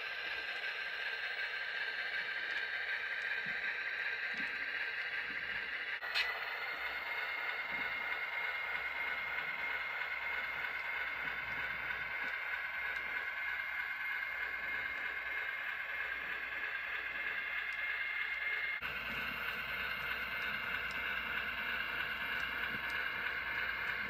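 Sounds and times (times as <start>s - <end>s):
model train motor whine: 0.0s - 24.0s
small wheels rolling on rail: 0.0s - 24.0s.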